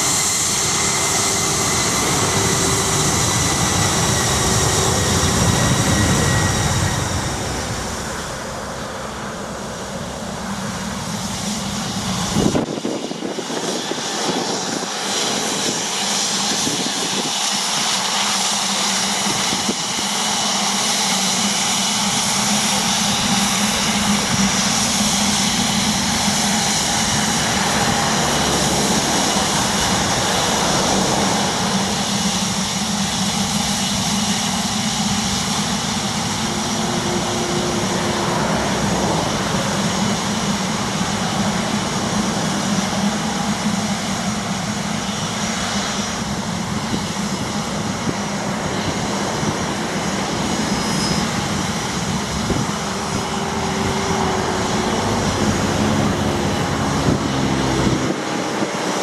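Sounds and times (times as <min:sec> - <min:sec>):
deep engine rumble: 0:00.0 - 0:59.0
jet engines whining: 0:00.0 - 0:59.0.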